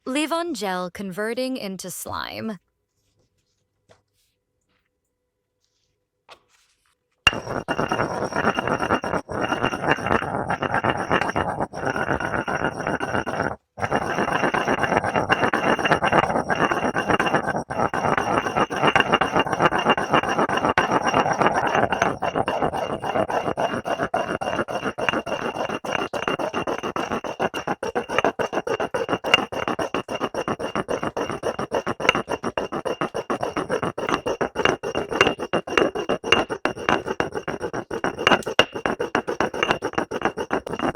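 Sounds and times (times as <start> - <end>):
slime scraping and squelching: 7.3 - 40.9.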